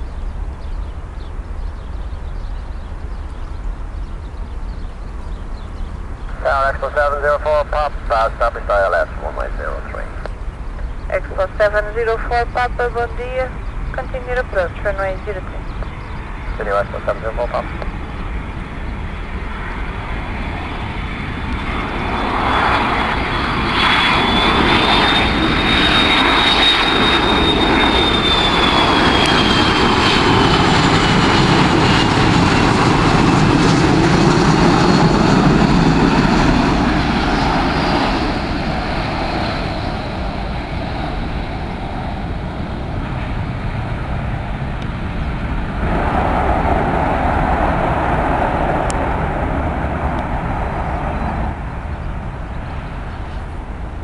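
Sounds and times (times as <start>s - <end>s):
jet airliner passing overhead: 0.0s - 54.0s.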